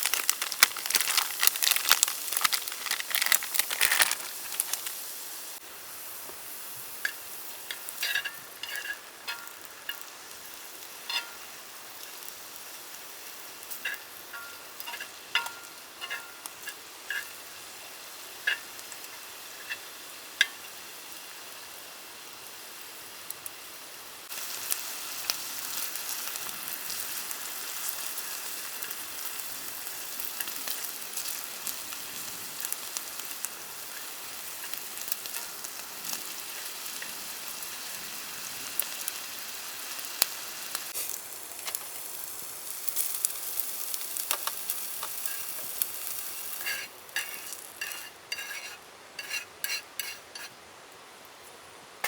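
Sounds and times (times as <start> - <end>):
food sizzling in hot oil: 0.0 - 50.7.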